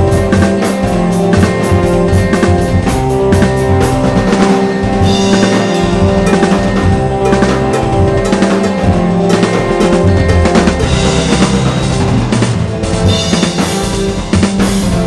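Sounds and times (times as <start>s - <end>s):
backing track music: 0.0s - 15.0s
drum kit playing: 0.0s - 15.0s.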